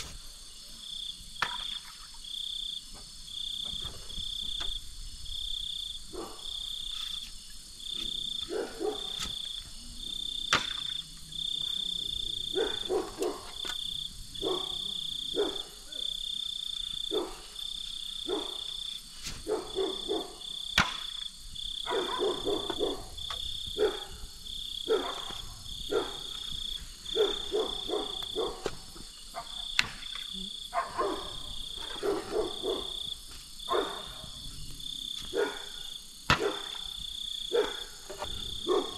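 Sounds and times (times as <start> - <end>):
night insects chirping: 0.0 - 38.9
frogs croaking: 0.3 - 38.9.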